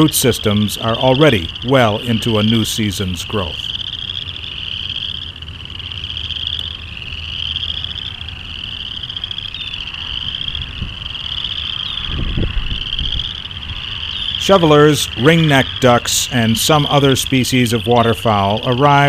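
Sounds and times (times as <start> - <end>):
frogs trilling: 0.0 - 19.0.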